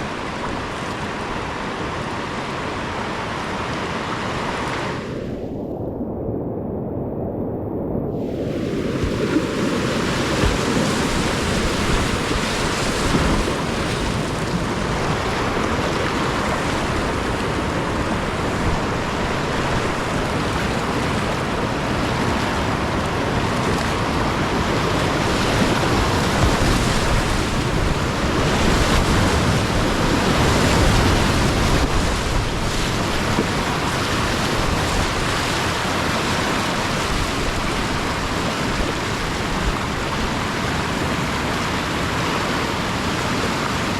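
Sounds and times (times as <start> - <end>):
whitewater rushing: 0.0 - 5.4, 8.2 - 43.9
wind hitting microphone: 3.4 - 41.6.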